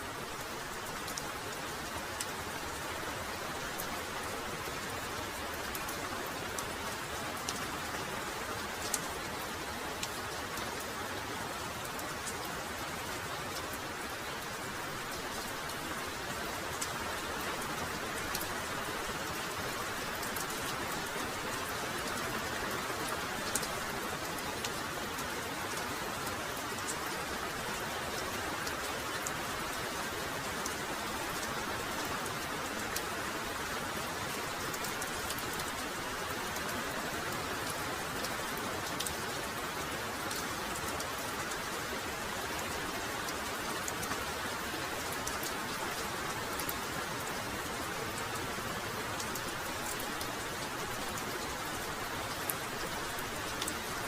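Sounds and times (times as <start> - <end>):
heavy rain falling: 0.0 - 54.0
sharp ticks of raindrops: 0.0 - 54.0.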